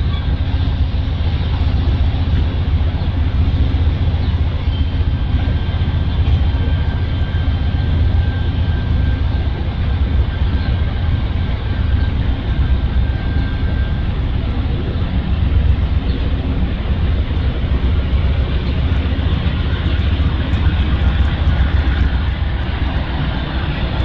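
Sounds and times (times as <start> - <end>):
faint thin whine: 0.0 - 24.0
passenger train rumbling: 0.0 - 24.0.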